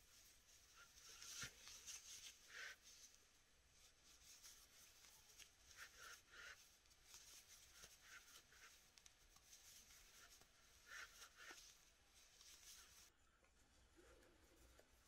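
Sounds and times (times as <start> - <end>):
crochet hook rustling yarn: 0.0 - 15.0.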